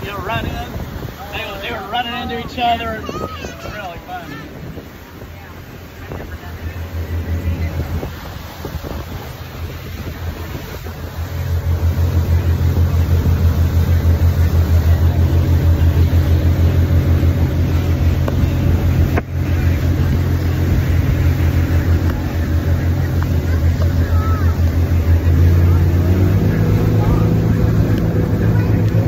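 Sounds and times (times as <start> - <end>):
motorboat engine humming: 0.0 - 29.0
wind rushing over microphone: 0.0 - 29.0.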